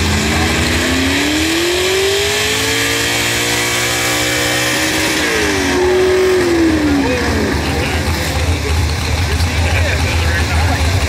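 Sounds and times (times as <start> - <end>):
truck engine at full throttle: 0.0 - 11.0.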